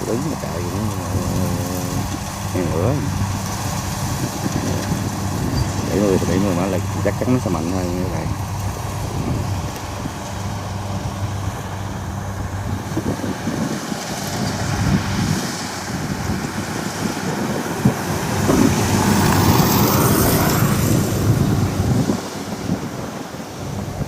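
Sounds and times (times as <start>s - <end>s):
combine harvester engine running: 0.0s - 24.0s
rushing noise: 0.0s - 24.0s.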